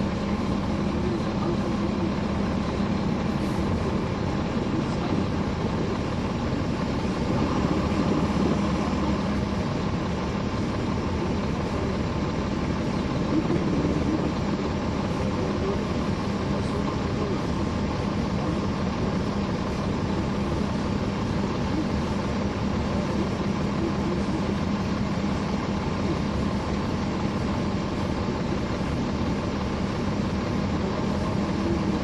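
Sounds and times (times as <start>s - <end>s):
bus diesel engine running: 0.0s - 32.0s
radiator fans: 0.0s - 32.0s.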